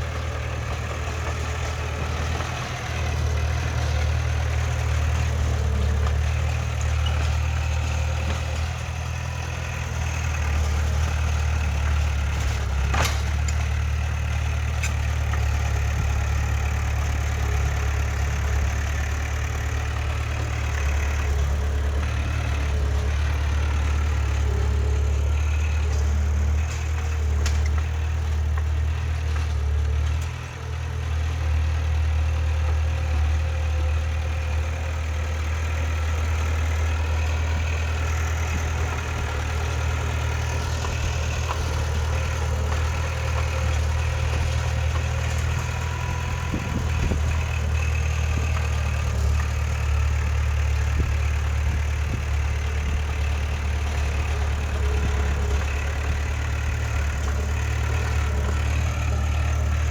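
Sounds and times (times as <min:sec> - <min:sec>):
heavy machinery diesel engine hum: 0:00.0 - 0:59.9.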